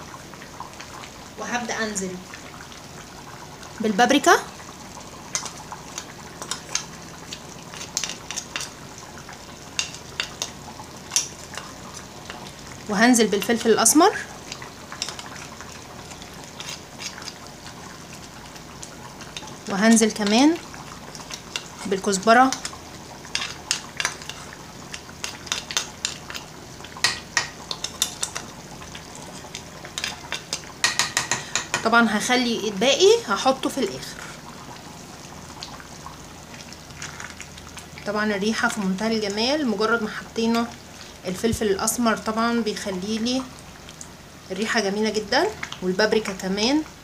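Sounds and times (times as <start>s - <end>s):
sauce simmering and bubbling: 0.0s - 47.0s.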